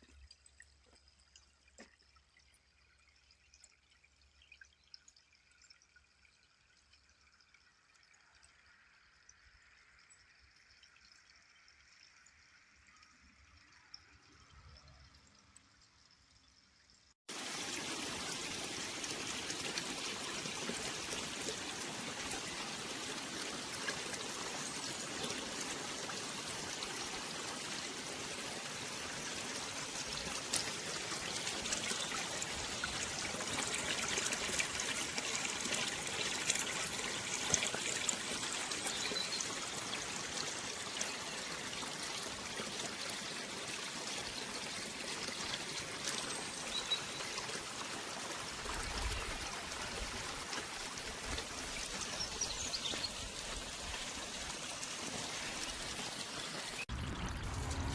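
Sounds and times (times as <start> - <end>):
water trickling and splashing: 0.0 - 57.9.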